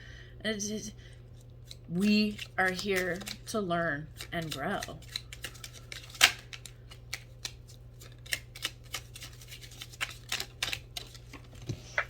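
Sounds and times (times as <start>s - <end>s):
steady low hum: 0.0s - 12.0s
cards being shuffled: 1.4s - 12.0s.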